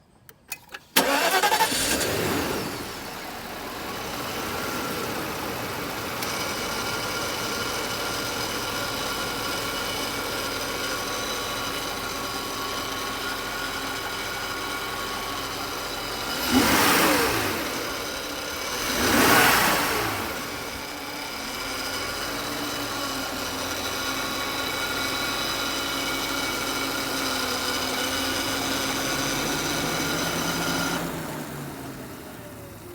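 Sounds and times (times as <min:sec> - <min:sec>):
car engine starting and idling: 0:00.1 - 0:32.9
engine revving: 0:01.0 - 0:32.3.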